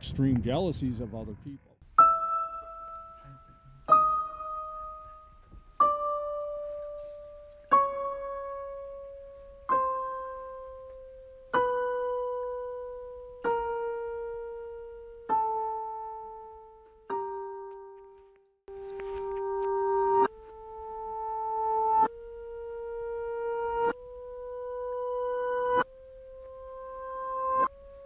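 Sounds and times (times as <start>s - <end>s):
slow piano notes: 1.8s - 28.0s.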